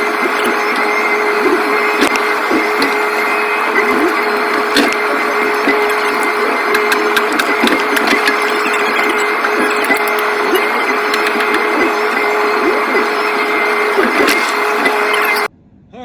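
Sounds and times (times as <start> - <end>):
excavator engine and hydraulics whine: 0.0 - 15.5.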